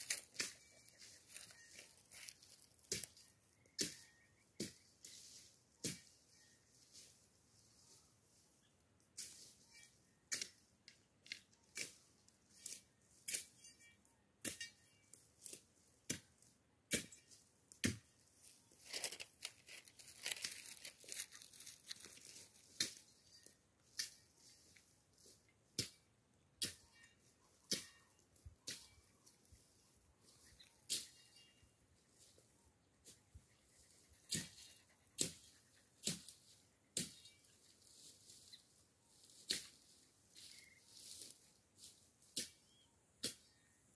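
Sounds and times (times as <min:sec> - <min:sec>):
dry twigs and leaves crackling: 0:00.0 - 0:08.6, 0:14.8 - 0:26.0, 0:26.7 - 0:42.6.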